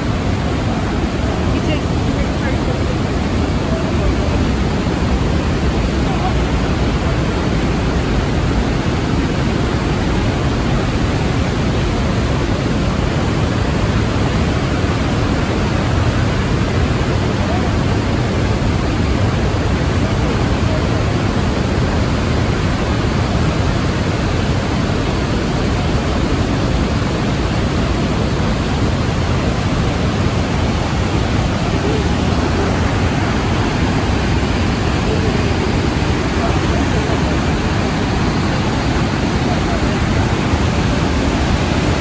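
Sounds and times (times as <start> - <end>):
roar of falling water: 0.0 - 42.0.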